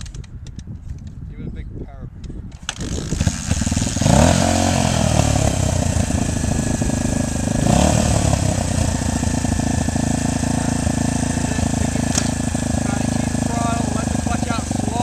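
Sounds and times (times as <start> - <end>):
dirt bike engine revving: 2.7 - 15.0.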